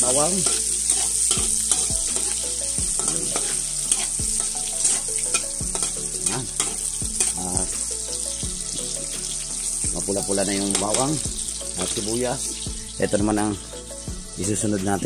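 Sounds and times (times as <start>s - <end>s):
stirring strokes in a wok: 0.0s - 13.0s
garlic and onion sizzling in oil: 0.0s - 15.0s.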